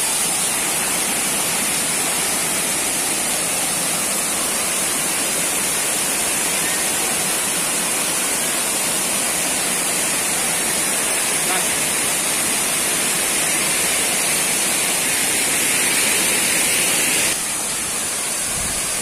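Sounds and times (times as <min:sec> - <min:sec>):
waterfall pouring over rock: 0:00.0 - 0:19.0.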